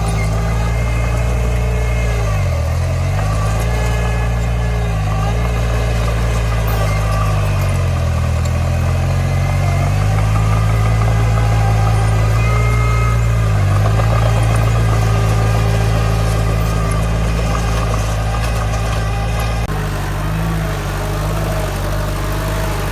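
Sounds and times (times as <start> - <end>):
bulldozer diesel engine running: 0.0 - 22.9.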